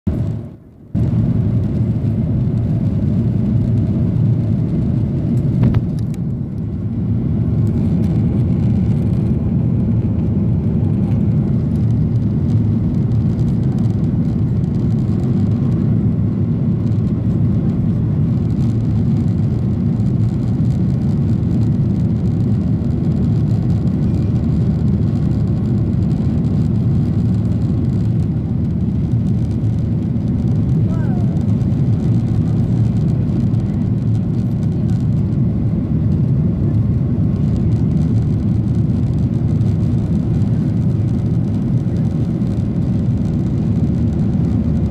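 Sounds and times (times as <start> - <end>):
jet engine rumble in cabin: 0.1 - 44.9.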